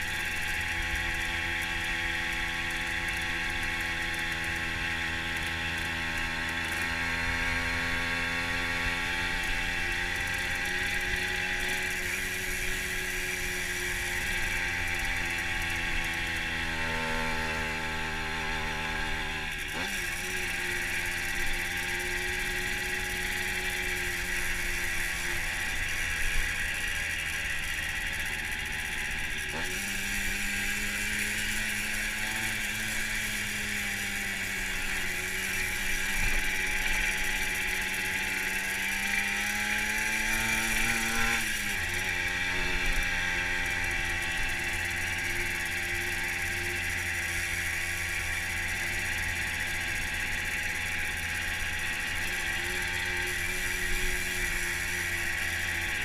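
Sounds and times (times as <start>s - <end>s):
moped two-stroke engine running: 0.0s - 56.0s.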